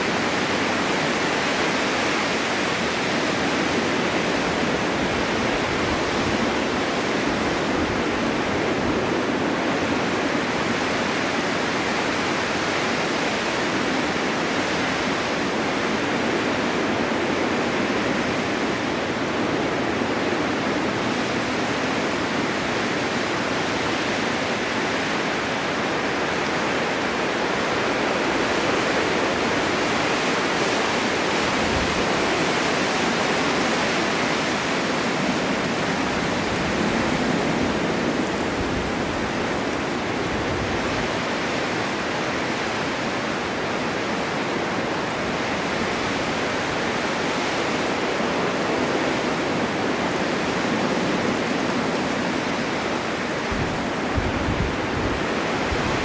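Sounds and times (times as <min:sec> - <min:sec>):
snowstorm wind blowing: 0:00.0 - 0:56.0.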